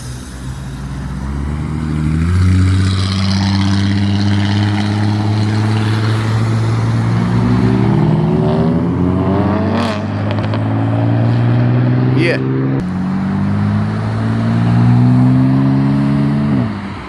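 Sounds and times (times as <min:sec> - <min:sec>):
car engine running and revving: 0:00.0 - 0:17.0.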